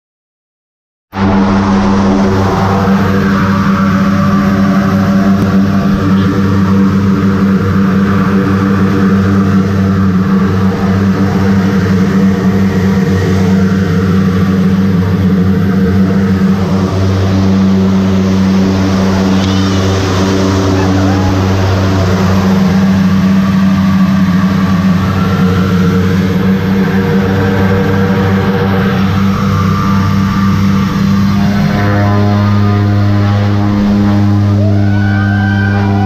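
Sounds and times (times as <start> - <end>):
turboprop engines droning: 1.1 - 36.0.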